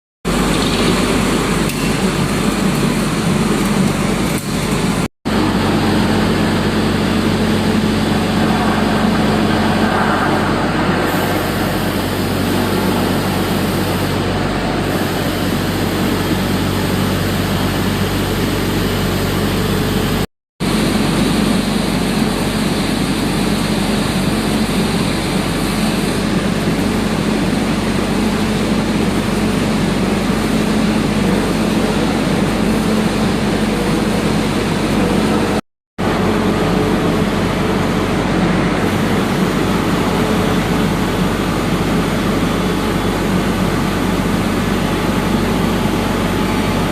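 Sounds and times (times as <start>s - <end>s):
diesel engine drone: 0.3s - 46.9s.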